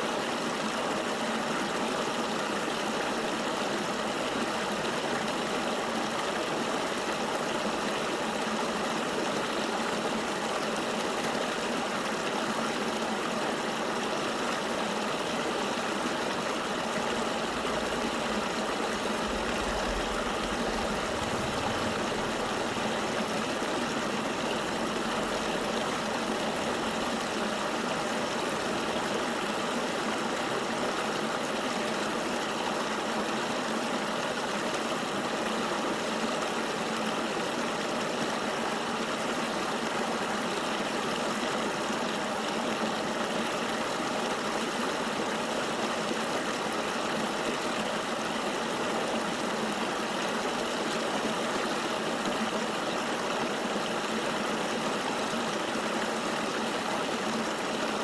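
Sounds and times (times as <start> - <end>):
flowing river water: 0.0 - 58.0.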